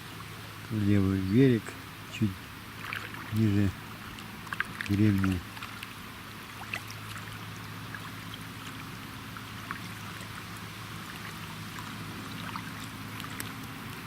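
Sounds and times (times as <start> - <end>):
steady low hum: 0.0 - 14.0
water lapping against boat hull: 0.0 - 14.0
small drips and splashes: 1.5 - 14.0.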